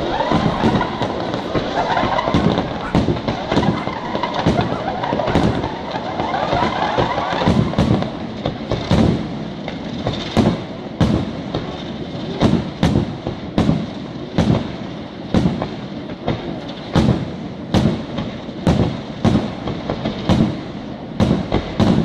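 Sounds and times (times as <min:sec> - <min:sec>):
firework bangs: 0:00.0 - 0:22.0
firework crackle: 0:00.0 - 0:22.0.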